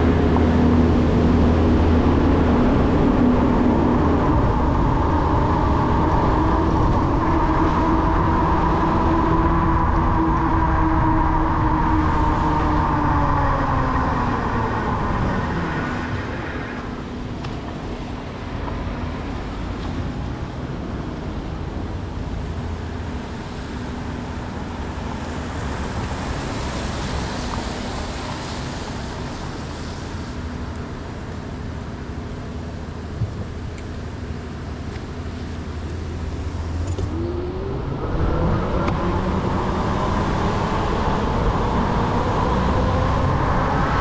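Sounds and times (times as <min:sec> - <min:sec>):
wind noise: 0:00.0 - 0:30.5, 0:35.2 - 0:44.0
cars passing: 0:00.0 - 0:44.0
passing vehicle whine: 0:00.0 - 0:44.0
road rumble: 0:00.0 - 0:44.0.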